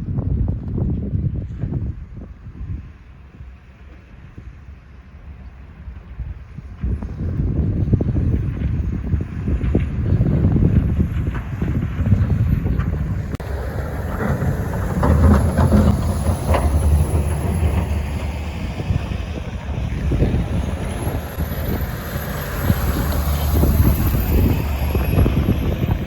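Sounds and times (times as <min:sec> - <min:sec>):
truck engine rumbling: 0:01.6 - 0:26.0.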